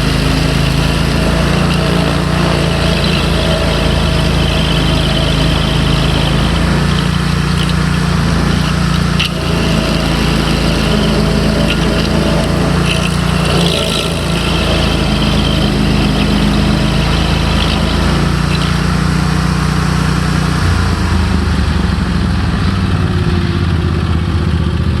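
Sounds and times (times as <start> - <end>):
stump grinder engine running: 0.0 - 25.0.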